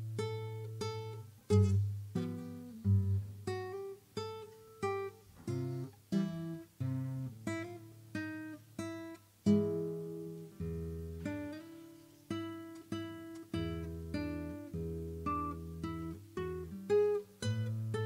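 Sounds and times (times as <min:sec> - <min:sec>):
acoustic guitar melody: 0:00.0 - 0:18.0.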